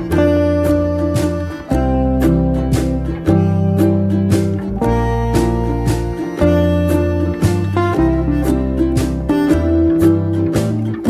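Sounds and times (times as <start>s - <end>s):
bass line: 0.0s - 11.0s
strummed acoustic guitar: 0.0s - 11.0s.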